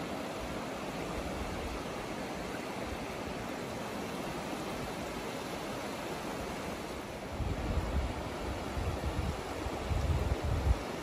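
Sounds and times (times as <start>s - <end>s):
small waves washing on shore: 0.0s - 11.0s.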